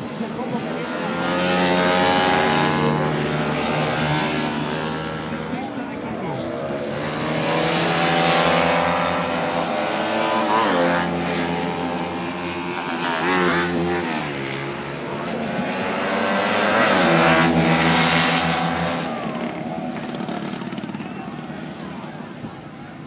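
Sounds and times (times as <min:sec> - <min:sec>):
racing motorcycle engines at full throttle: 0:00.0 - 0:23.0.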